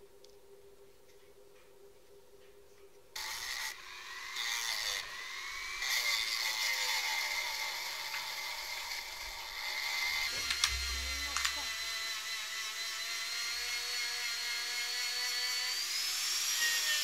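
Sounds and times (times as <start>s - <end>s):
rotary tool sanding wood: 3.2s - 17.0s.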